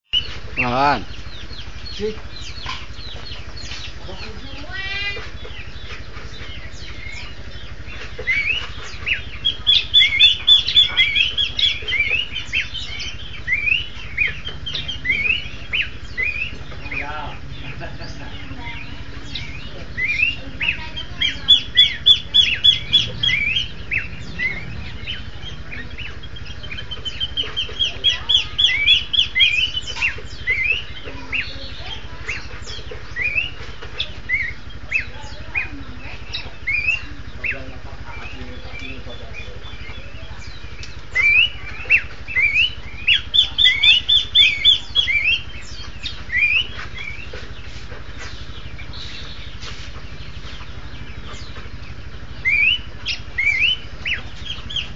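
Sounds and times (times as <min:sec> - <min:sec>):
steady low hum: 0:00.1 - 0:54.9
birds whistling in duet: 0:00.2 - 0:54.9.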